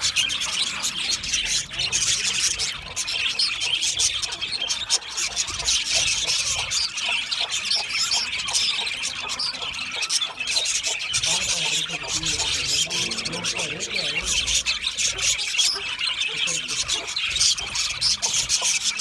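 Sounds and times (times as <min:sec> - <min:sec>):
budgerigars chattering: 0:00.0 - 0:19.0.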